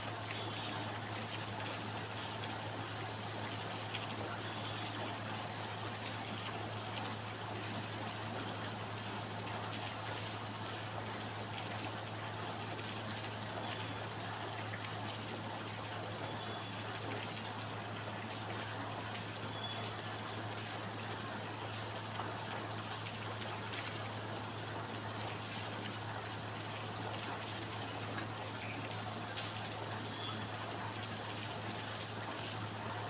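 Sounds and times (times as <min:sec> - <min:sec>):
rain falling: 0:00.0 - 0:33.0
water trickling: 0:00.0 - 0:33.0.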